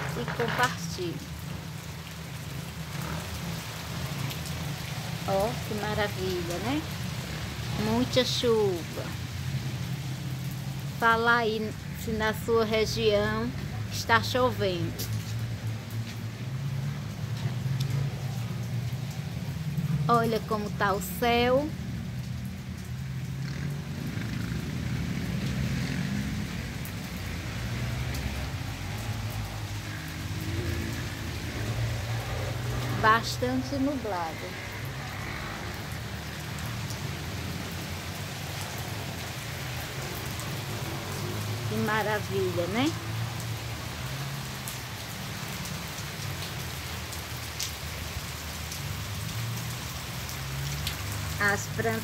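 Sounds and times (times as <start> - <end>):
heavy rain on trees and ground: 0.0 - 52.0
ticks of nearby raindrops: 0.0 - 52.0.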